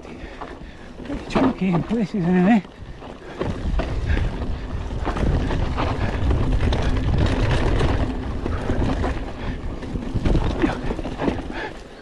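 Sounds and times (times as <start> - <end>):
bike tyres rattling on trail: 0.0 - 12.0
wind rumbling on microphone: 0.0 - 12.0.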